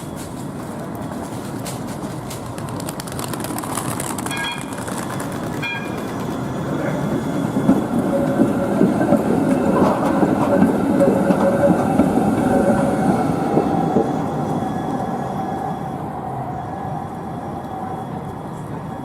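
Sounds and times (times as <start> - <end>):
tram running on tracks: 0.0 - 19.0.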